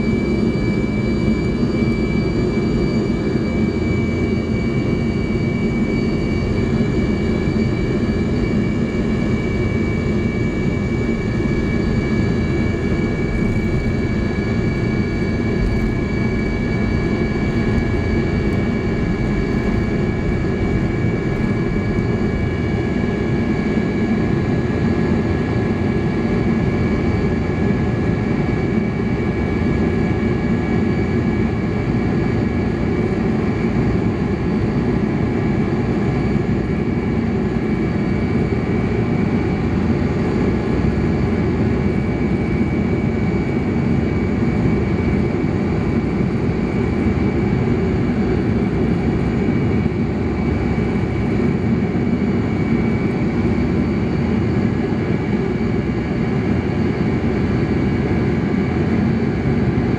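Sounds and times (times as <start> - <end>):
deep jet engine rumble: 0.0 - 59.9
thin steady whine: 0.0 - 59.9.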